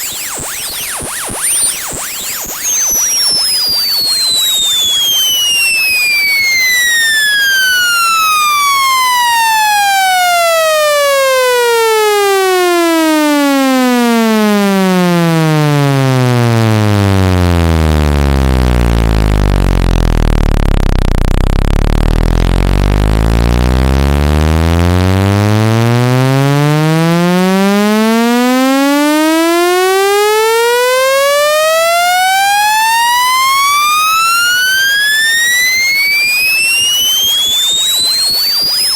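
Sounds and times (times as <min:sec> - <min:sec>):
electronic test tone sweeping: 0:00.0 - 0:10.8, 0:16.2 - 0:38.9.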